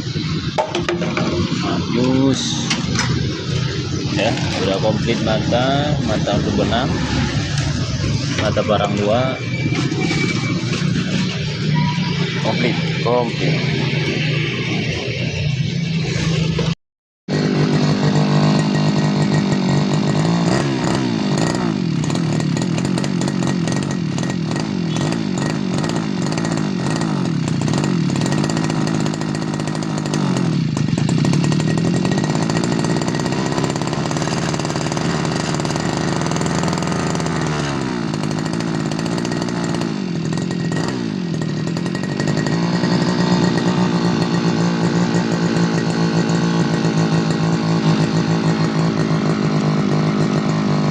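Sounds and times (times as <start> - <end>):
brush cutter engine revving: 0.0 - 50.9.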